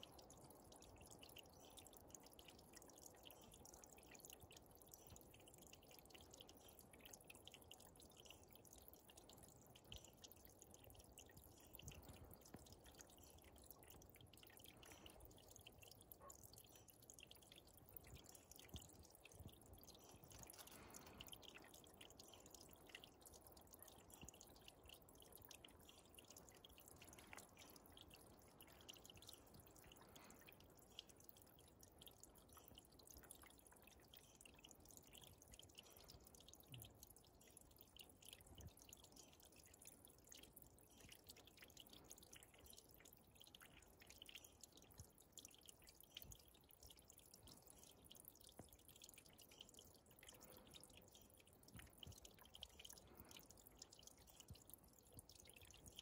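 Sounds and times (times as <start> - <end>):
stream trickling into pool: 0.0 - 56.0
water drops pattering: 0.0 - 56.0.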